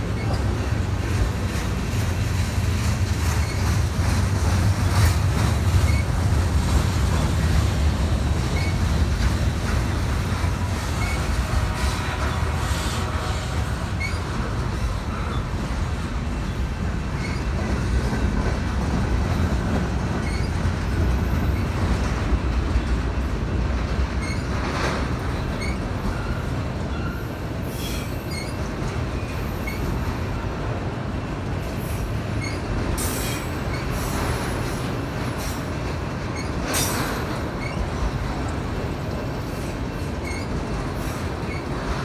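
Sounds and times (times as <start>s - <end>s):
wheels clicking over rail joints: 0.0s - 12.6s, 13.6s - 30.4s, 31.3s - 42.0s
freight train wheels rumbling: 0.0s - 42.0s.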